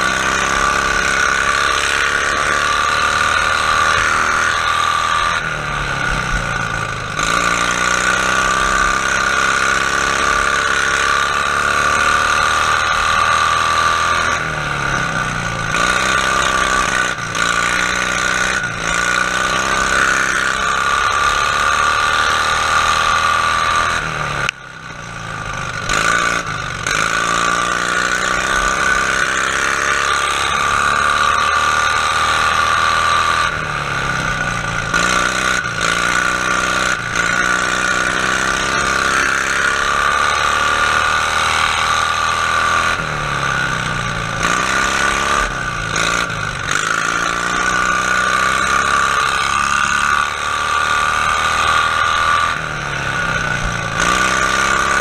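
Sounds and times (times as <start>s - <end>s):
lawn tractor engine running hard: 0.0s - 55.0s.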